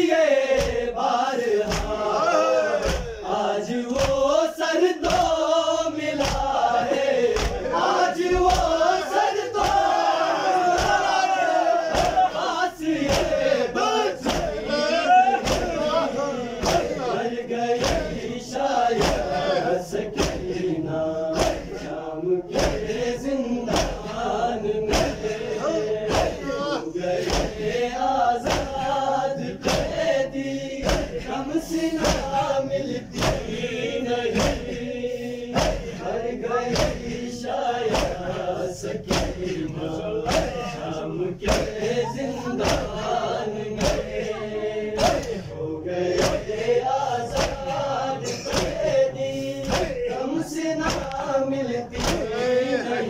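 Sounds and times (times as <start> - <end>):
men chanting in unison: 0.0 - 53.0
rhythmic chest slapping: 0.0 - 53.0.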